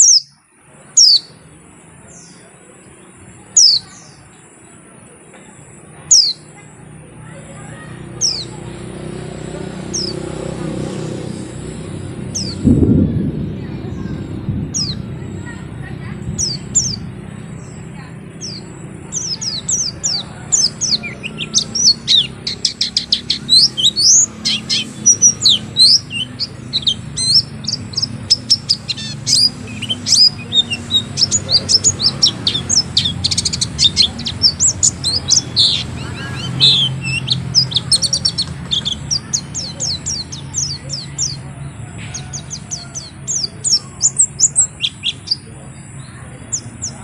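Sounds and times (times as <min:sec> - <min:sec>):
bird chirping: 0:00.0 - 0:47.0.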